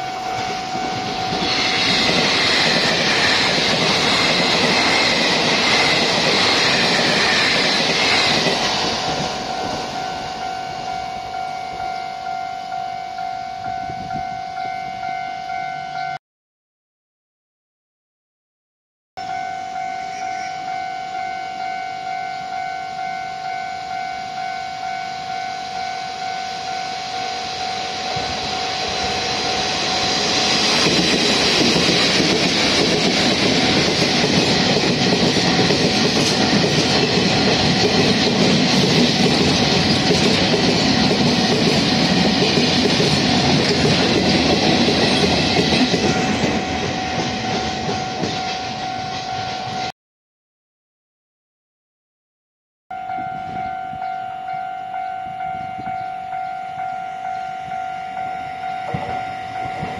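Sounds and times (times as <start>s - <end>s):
freight train passing: 0.0s - 16.2s, 19.2s - 49.9s, 52.9s - 59.9s
level-crossing warning bell: 0.0s - 16.2s, 19.2s - 49.9s, 52.9s - 59.9s.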